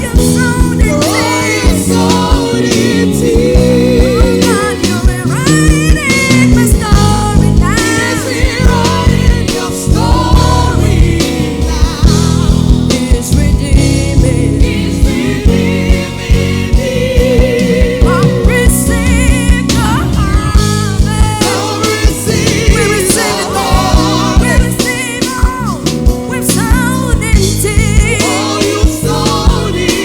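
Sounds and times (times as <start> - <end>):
gospel singers with band: 0.0 - 30.0.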